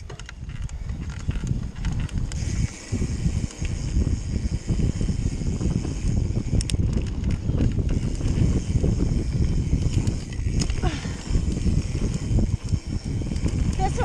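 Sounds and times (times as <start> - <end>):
bike rattling and knocking: 0.0 - 14.0
sharp clacks from bike: 0.0 - 14.0.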